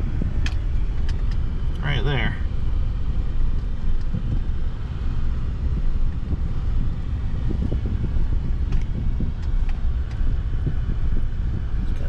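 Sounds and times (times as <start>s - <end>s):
truck rumbling inside cab: 0.0s - 12.0s
wind buffeting microphone: 0.0s - 12.0s.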